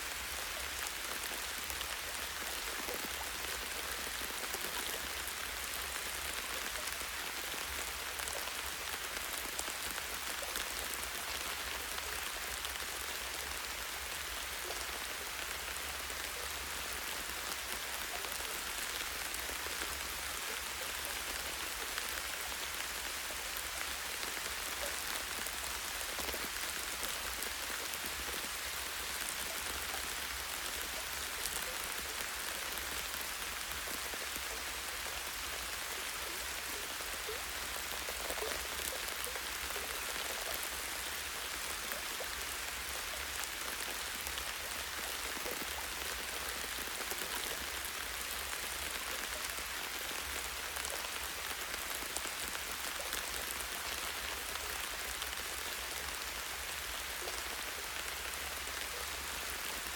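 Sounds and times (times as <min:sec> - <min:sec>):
light rain pattering on leaves: 0:00.0 - 0:59.9.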